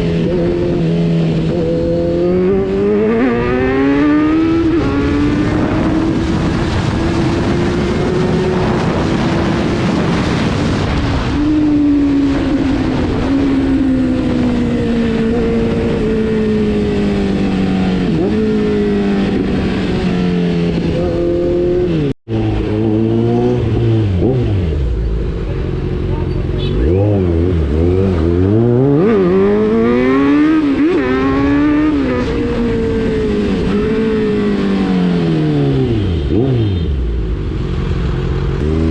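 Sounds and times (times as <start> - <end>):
motorcycle engine running at speed: 0.0 - 38.9.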